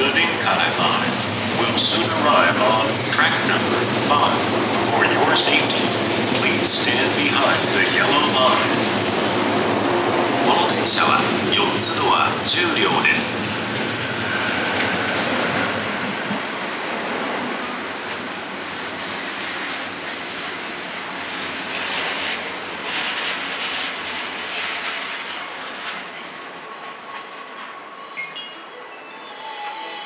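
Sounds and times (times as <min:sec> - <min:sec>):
train wheel squeal: 0:00.0 - 0:16.6, 0:18.6 - 0:30.0
train wheels clattering over rails: 0:00.0 - 0:28.0.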